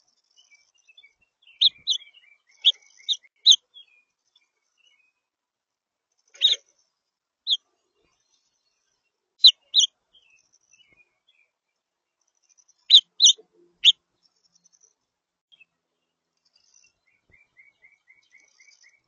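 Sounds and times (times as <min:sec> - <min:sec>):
songbird chirps: 0:00.0 - 0:19.0.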